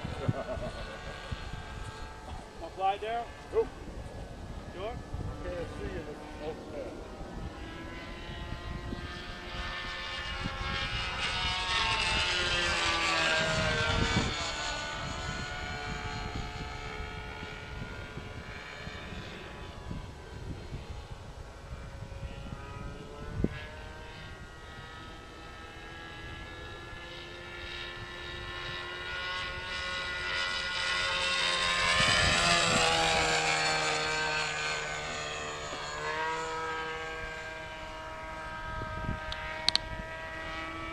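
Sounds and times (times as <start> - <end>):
model airplane engine buzzing: 0.0 - 40.9.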